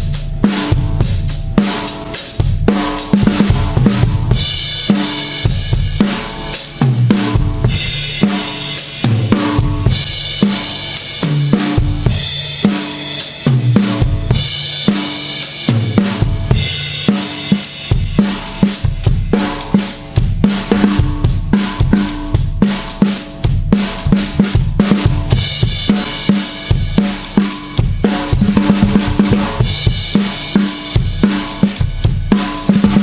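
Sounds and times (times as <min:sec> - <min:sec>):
bass drum and snare groove: 0:00.0 - 0:33.0
cymbal crashes: 0:00.0 - 0:33.0.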